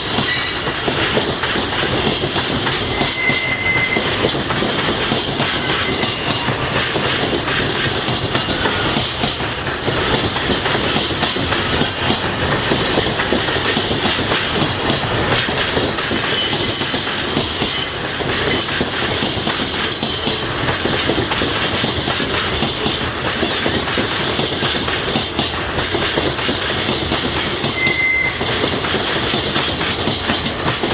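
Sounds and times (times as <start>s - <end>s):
steel wheels clattering on rails: 0.0s - 30.9s.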